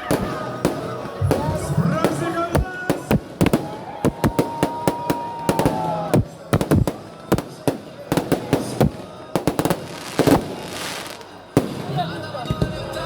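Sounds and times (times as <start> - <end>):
firework whistling: 0.0 - 11.6
fireworks bangs: 0.0 - 13.0.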